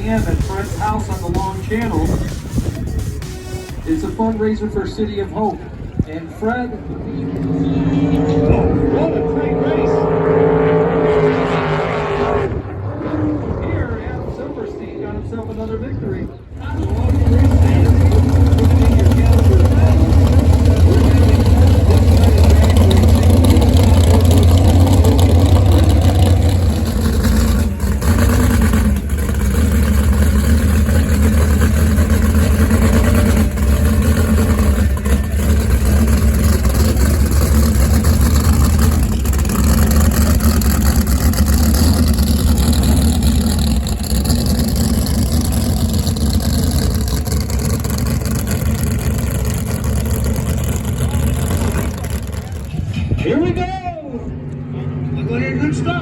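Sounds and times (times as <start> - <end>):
jet boat engines droning: 0.0 - 56.0.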